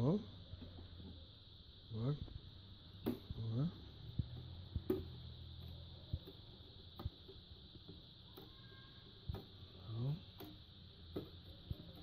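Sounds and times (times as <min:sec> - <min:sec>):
steady low hum and hiss: 0:00.0 - 0:12.0.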